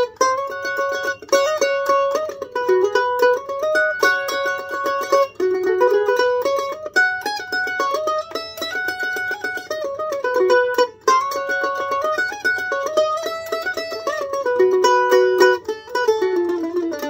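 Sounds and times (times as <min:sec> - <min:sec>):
mandolin melody: 0:00.0 - 0:17.0.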